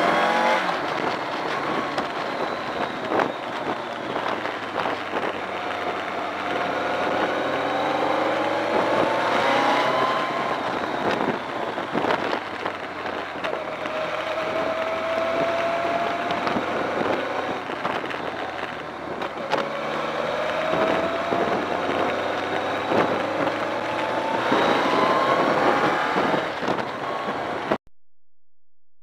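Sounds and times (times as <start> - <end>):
motorcycle engine accelerating: 0.0 - 27.8.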